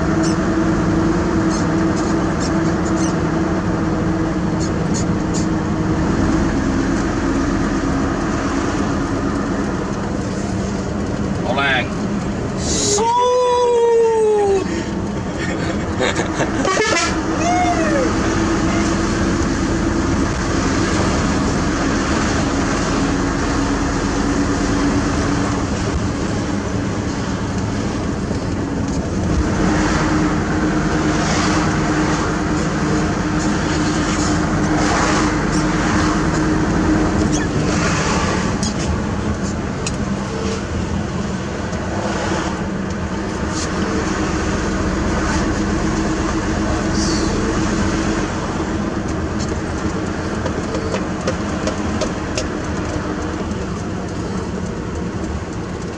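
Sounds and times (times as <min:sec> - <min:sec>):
road and tyre noise: 0:00.0 - 0:55.9
truck engine running: 0:00.0 - 0:55.9.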